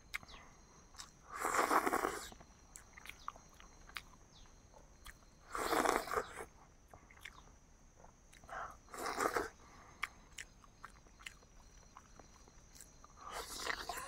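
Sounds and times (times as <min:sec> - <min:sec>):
chewing with mouth clicks: 0:00.1 - 0:14.0.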